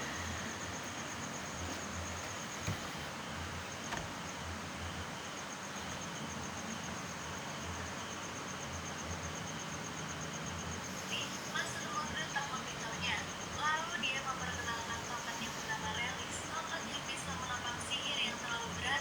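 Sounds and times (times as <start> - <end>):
background hiss: 0.0 - 19.0
insect chirping: 0.0 - 19.0.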